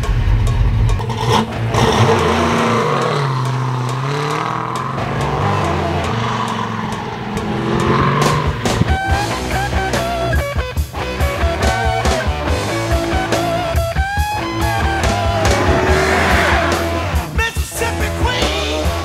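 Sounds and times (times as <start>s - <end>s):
car engine pulling away: 0.0s - 19.0s.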